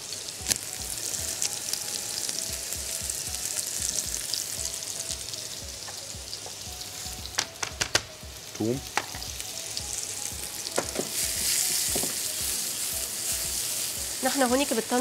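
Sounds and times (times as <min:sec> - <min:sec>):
meat sizzling in frying pan: 0:00.0 - 0:15.0.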